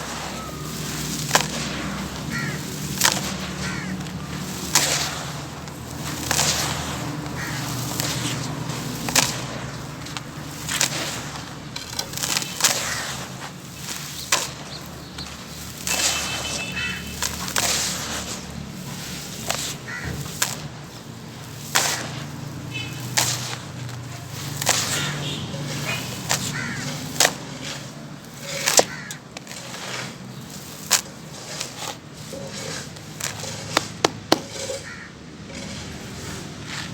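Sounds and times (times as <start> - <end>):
charcoal crunching and snapping: 0.0 - 36.9.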